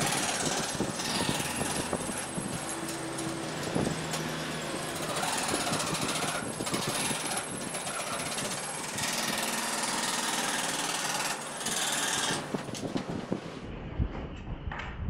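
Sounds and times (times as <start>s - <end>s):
scroll saw cutting wood: 0.0s - 13.4s.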